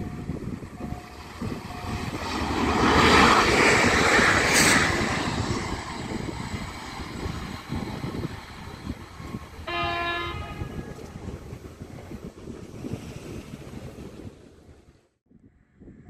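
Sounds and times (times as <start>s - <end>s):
train passing at speed: 0.0s - 14.2s.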